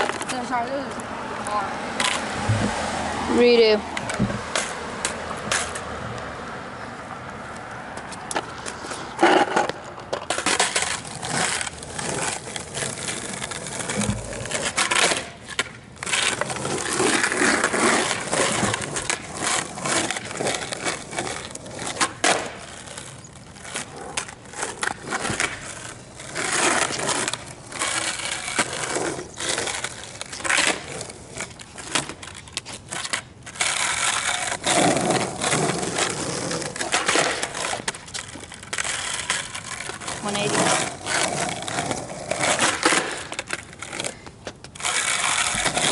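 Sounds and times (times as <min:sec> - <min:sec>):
skateboard wheels rolling on asphalt: 0:00.0 - 0:45.9
skateboard clacking on landing: 0:08.3 - 0:45.9.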